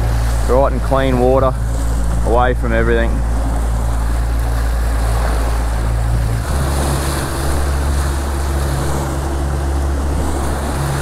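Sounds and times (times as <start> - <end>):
outboard motor running: 0.0 - 11.0
wake washing: 0.0 - 11.0
wind on microphone: 0.0 - 11.0.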